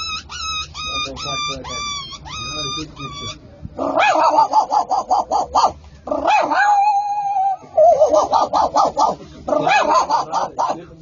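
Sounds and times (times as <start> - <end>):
dog whining: 0.0 - 10.8
dog yipping: 0.0 - 10.8.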